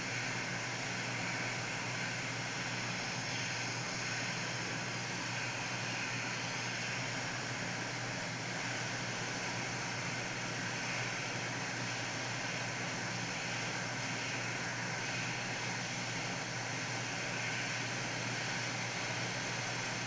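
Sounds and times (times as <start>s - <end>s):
hot air station hissing: 0.0s - 20.0s.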